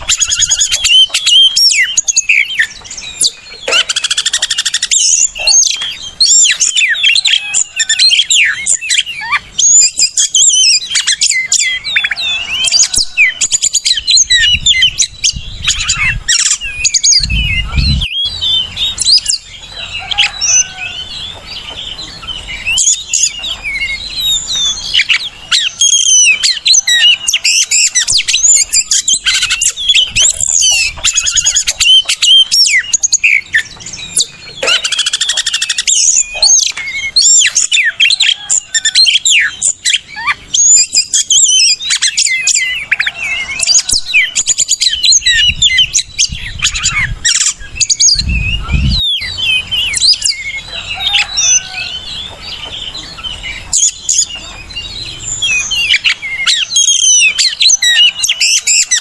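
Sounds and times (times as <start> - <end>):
bird singing whistles and chirps: 0.0 - 59.0.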